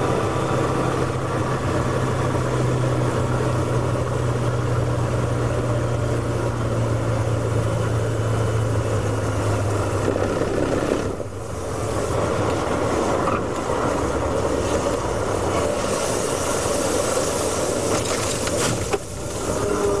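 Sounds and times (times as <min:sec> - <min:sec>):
race car engine hum: 0:00.0 - 0:20.0
wind and tyre noise: 0:00.0 - 0:20.0.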